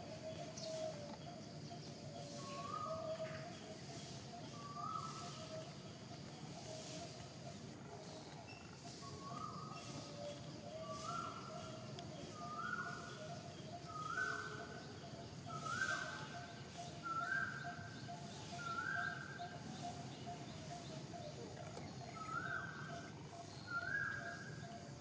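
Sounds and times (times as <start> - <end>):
bird calling: 0.0 - 25.0.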